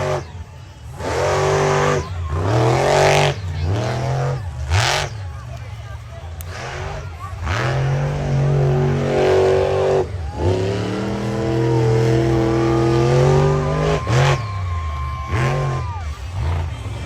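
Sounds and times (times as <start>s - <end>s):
truck engine revving hard: 0.0s - 17.0s.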